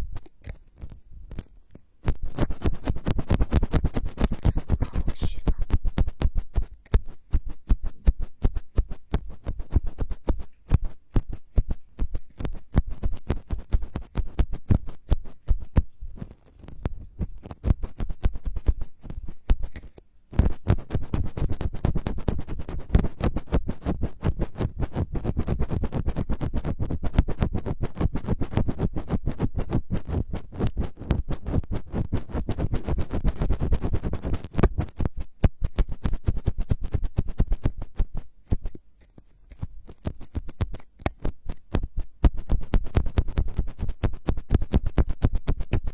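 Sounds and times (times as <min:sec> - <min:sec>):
rapid scratching close to microphone: 0:00.0 - 0:45.9.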